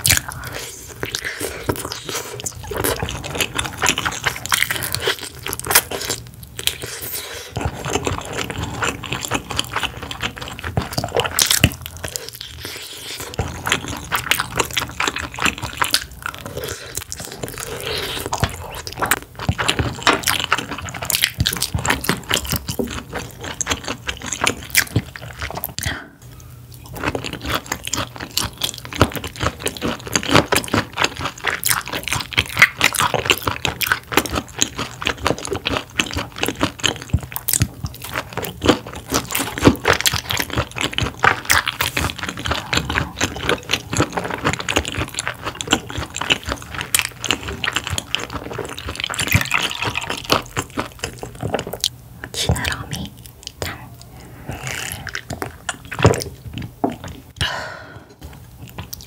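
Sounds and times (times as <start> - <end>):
chewing with wet mouth clicks: 7.6 - 25.9, 26.7 - 57.3, 58.3 - 59.0.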